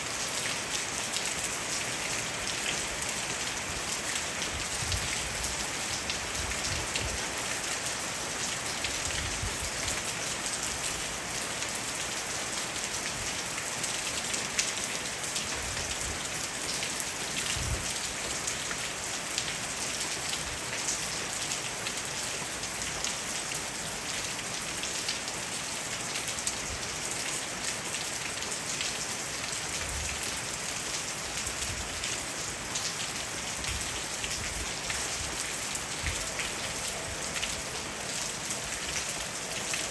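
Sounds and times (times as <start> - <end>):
rain on roof and leaves: 0.0 - 39.9.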